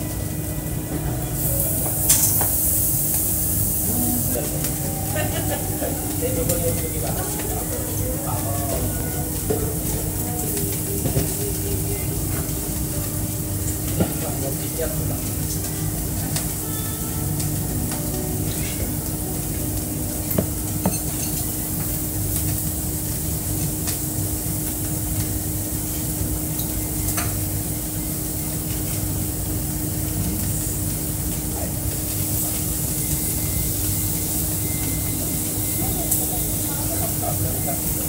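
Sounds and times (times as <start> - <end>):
food sizzling: 0.0 - 38.0.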